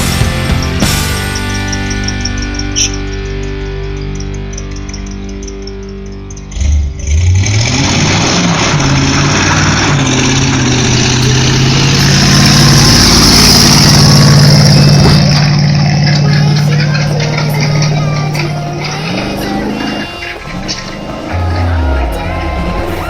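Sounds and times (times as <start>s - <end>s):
background music: 0.0s - 8.4s, 9.2s - 23.0s
vehicle engine revving: 0.0s - 23.0s.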